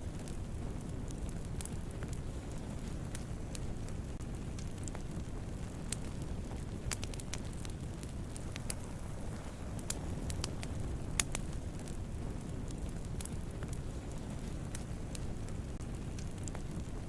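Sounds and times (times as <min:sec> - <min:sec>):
campfire burning with crackles: 0:00.0 - 0:17.0.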